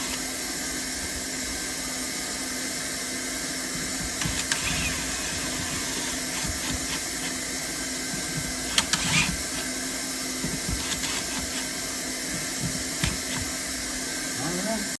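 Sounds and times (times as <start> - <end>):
hot-air welder blowing: 0.0 - 14.9.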